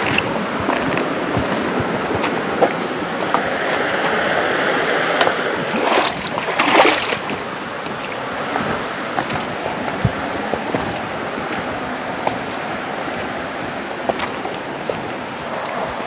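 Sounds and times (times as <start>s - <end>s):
river flowing over rocks: 0.0s - 16.0s
water splashing: 0.0s - 16.0s.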